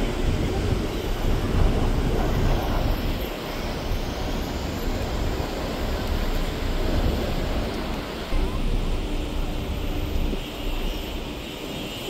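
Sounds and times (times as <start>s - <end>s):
vehicle road and engine rumble: 0.0s - 11.9s.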